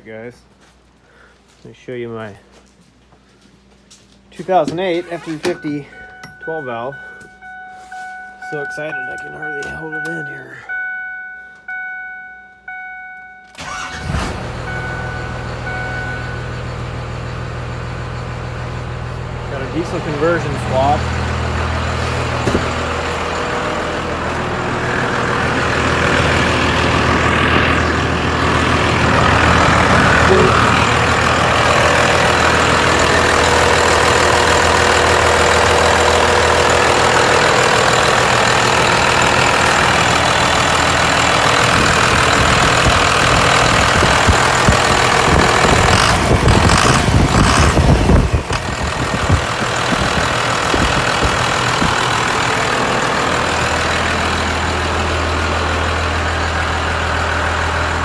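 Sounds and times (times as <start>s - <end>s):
diesel engine idling: 4.4s - 58.0s.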